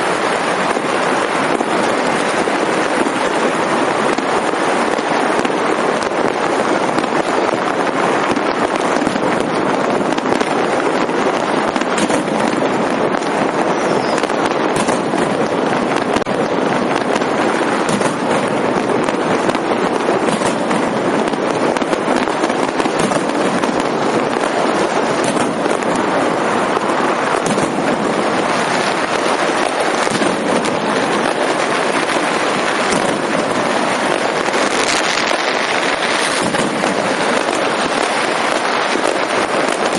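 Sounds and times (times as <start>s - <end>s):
firecrackers crackling: 0.0s - 39.9s
fireworks bangs: 0.0s - 39.9s.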